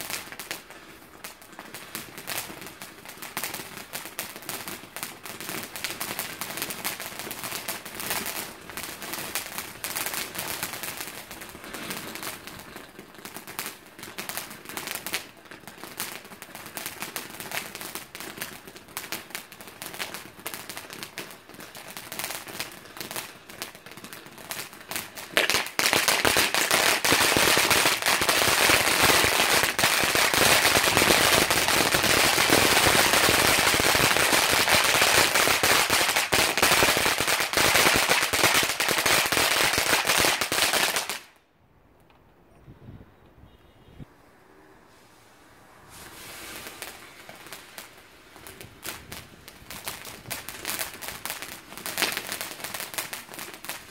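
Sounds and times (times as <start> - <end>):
firework fountain crackling: 0.0 - 41.4, 44.8 - 53.9.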